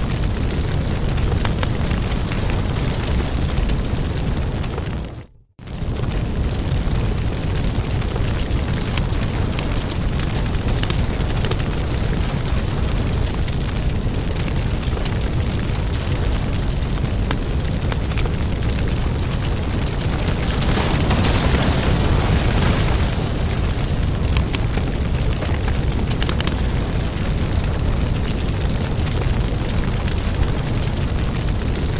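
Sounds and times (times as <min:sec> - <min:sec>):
fire crackling and popping: 0:00.0 - 0:31.9
fire rumbling: 0:00.0 - 0:31.9.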